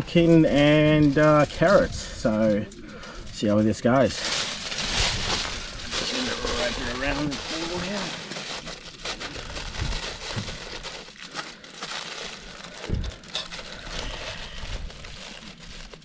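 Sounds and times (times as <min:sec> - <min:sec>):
crinkling and crunching handling: 0:00.0 - 0:16.0.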